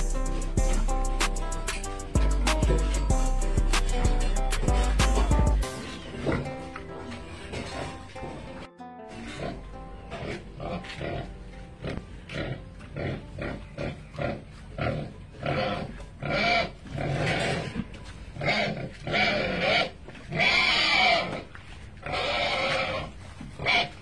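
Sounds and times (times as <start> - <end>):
pig grunting: 4.2 - 24.0.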